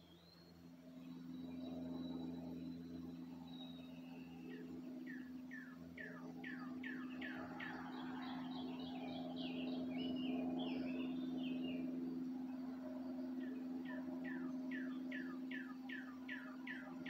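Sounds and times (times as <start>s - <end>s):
songbird singing: 0.0s - 17.0s
steady low hum: 0.0s - 17.0s.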